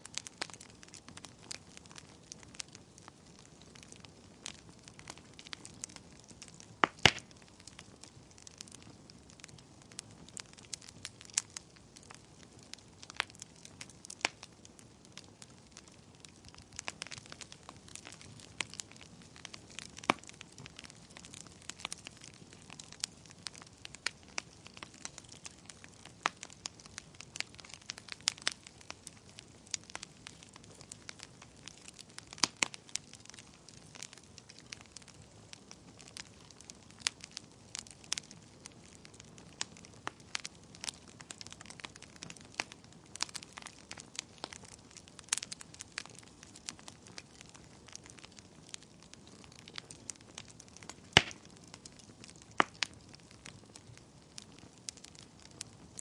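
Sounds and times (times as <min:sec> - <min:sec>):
fire soft hiss: 0:00.0 - 0:56.0
wood fire crackling and popping: 0:00.0 - 0:56.0.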